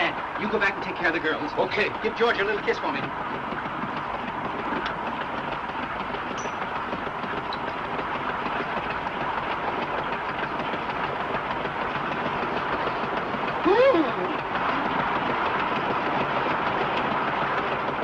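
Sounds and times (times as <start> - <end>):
train car rumbling on track: 0.0 - 18.0.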